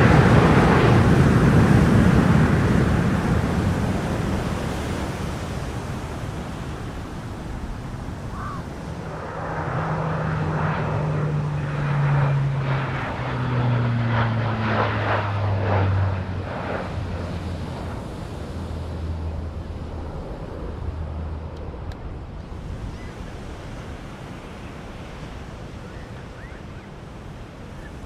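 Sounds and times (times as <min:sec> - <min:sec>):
aircraft engine rush: 0:00.0 - 0:28.0
low aircraft engine drone: 0:00.0 - 0:28.0.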